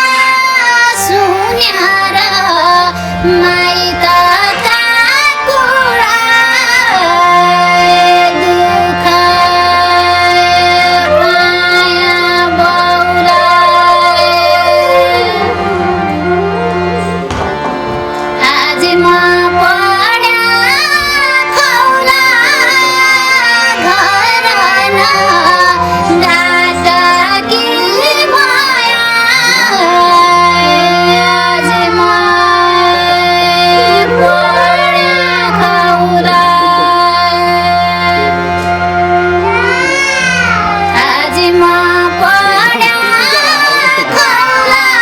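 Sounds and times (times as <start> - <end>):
woman singing ornamented runs: 0.0 - 16.6, 18.4 - 38.0
held accompaniment tone: 0.0 - 45.0.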